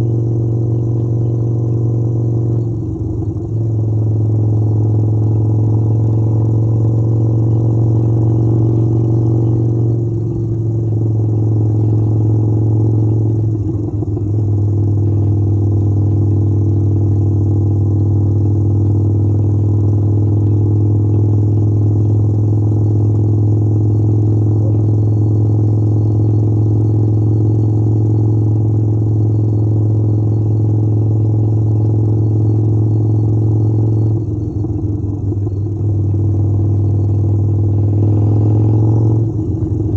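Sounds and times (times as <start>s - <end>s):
motorcycle engine humming: 0.0s - 39.9s.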